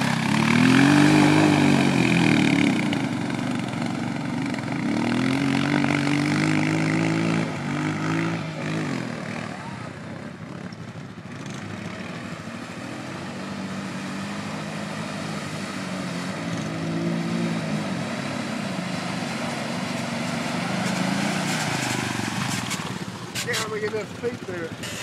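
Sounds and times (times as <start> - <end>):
atv engine revving in mud: 0.0 - 25.0.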